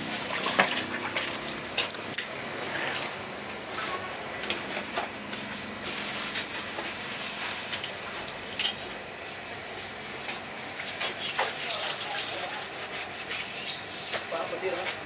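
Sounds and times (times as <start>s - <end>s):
steady noisy background: 0.0s - 15.0s.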